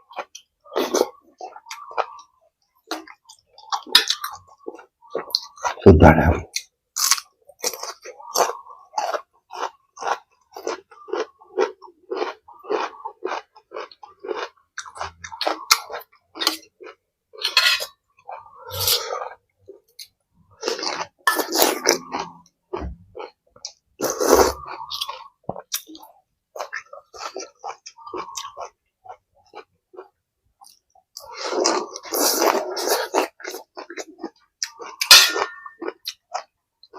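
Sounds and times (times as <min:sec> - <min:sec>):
chewing and crunching food: 0:00.0 - 0:05.8, 0:06.5 - 0:36.9.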